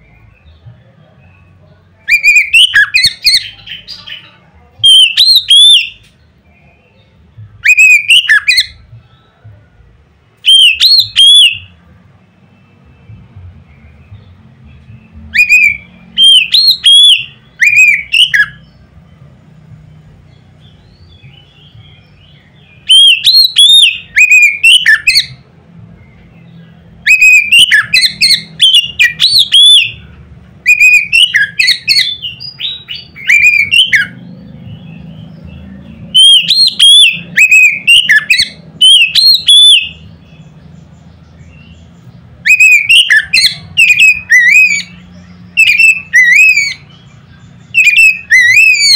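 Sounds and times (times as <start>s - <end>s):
bird singing whistled notes: 0.0s - 9.6s, 10.3s - 19.1s, 19.7s - 48.9s.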